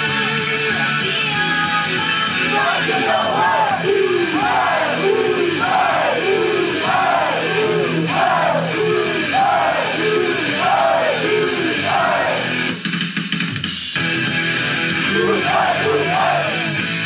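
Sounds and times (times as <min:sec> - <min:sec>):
loud pop-rock music: 0:00.0 - 0:17.0.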